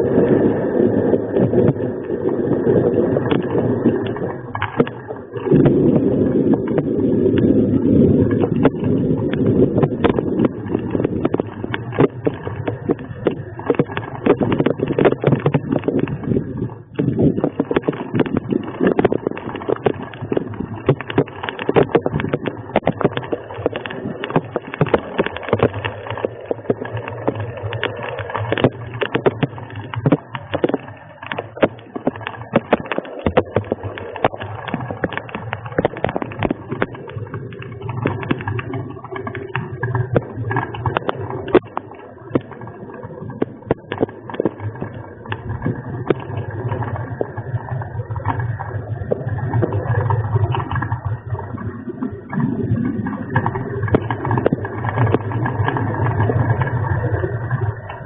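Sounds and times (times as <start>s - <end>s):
rain ticking on a hard surface: 0.0s - 58.0s
storm wind: 0.0s - 58.0s.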